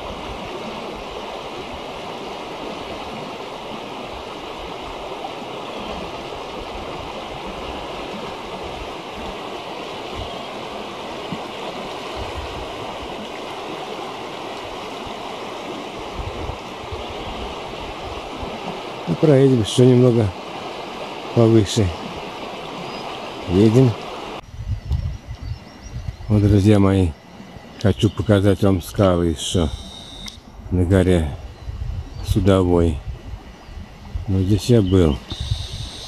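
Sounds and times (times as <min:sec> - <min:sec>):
river water rushing: 0:00.0 - 0:24.4, 0:26.3 - 0:31.6.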